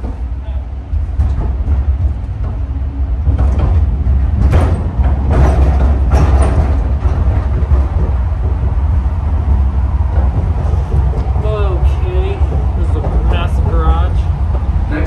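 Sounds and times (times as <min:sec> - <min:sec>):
train low rumble: 0:00.0 - 0:15.0
rush of noise: 0:00.2 - 0:15.0.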